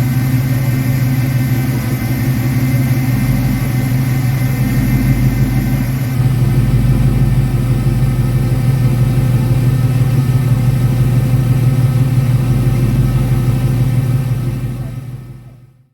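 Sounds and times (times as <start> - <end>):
engine exhaust low rumble: 0.0 - 15.9.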